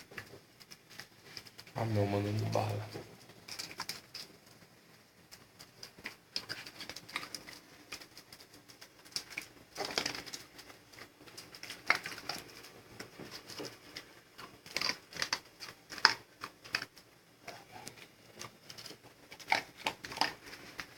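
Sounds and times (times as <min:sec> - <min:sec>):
pet crunching dry kibble: 0:00.0 - 0:20.9.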